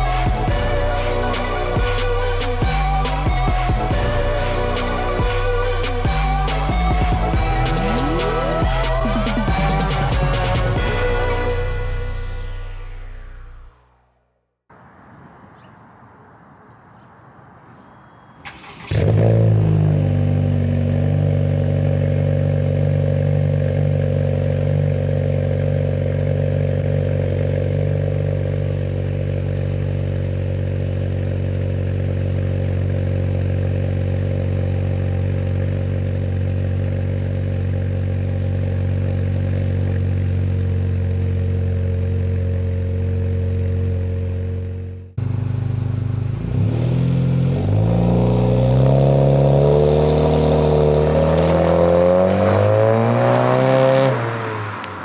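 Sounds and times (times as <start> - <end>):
car engine idling and revving: 0.0 - 14.9, 18.4 - 55.0.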